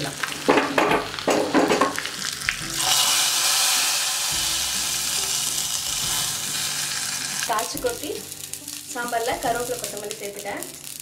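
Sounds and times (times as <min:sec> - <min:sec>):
loud steady sizzle: 0:00.0 - 0:11.0
spices crackling in hot oil: 0:00.0 - 0:11.0.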